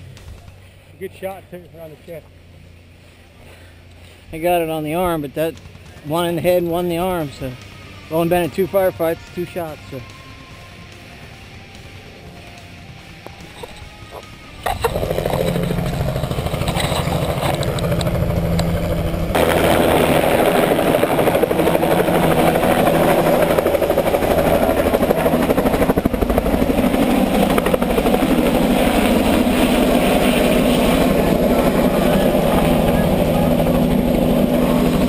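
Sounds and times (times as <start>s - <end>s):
engine running loudly: 0.0s - 35.0s.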